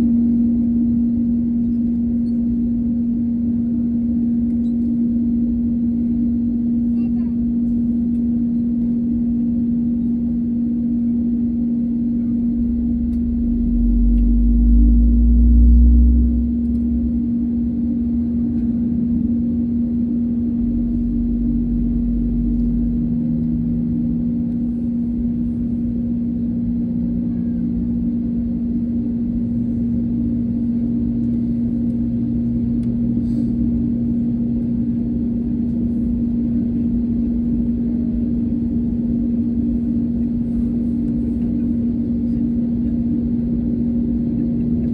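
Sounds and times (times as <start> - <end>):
deep rumble: 0.0 - 44.9
jet cabin hum: 0.0 - 44.9.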